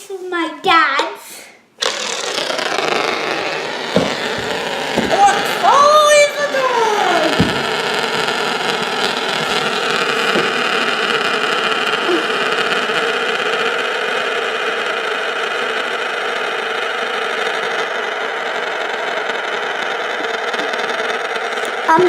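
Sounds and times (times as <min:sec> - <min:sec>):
marble spinner whirring rattle: 0:01.8 - 0:22.0.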